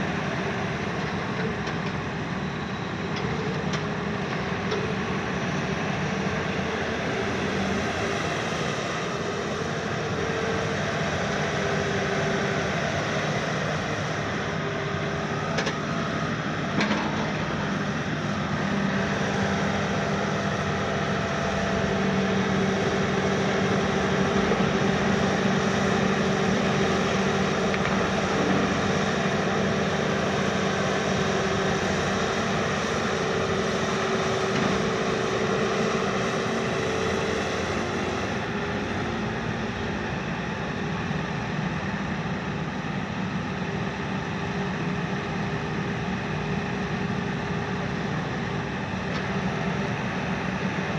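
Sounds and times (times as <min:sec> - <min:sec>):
excavator diesel engine running: 0:00.0 - 0:50.9
steady hydraulic hum: 0:00.0 - 0:50.9.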